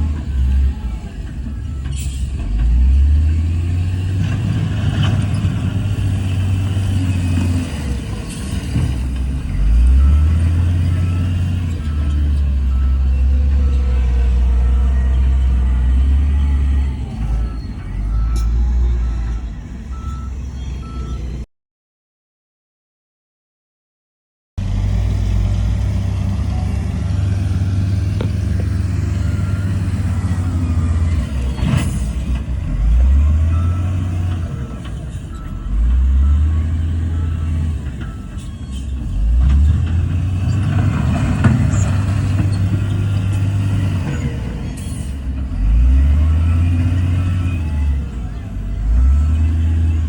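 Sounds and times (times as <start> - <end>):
diesel engine revving: 0.0 - 21.4, 24.6 - 50.0.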